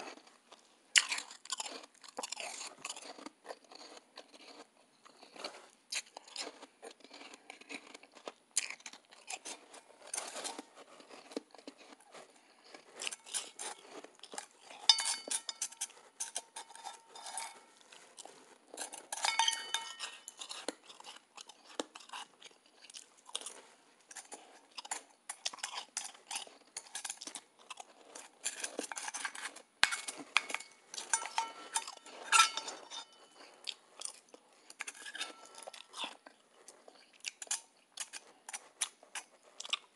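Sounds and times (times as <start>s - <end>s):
ice being crunched and chewed: 0.0s - 39.9s.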